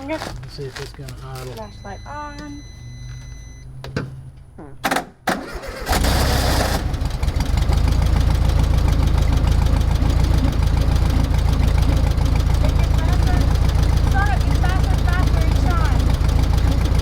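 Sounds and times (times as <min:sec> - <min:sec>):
car engine running: 0:00.0 - 0:04.6, 0:05.8 - 0:17.0.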